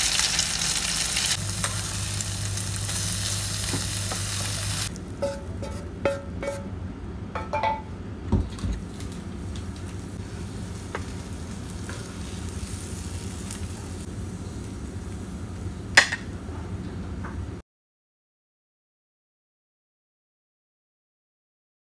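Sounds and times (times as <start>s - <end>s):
low background hum: 0.0s - 17.6s.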